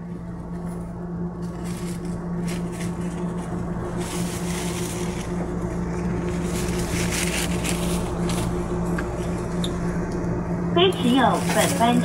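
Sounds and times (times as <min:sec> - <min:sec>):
low electrical hum: 0:00.0 - 0:12.0
wheel and rail rumble: 0:00.0 - 0:12.0.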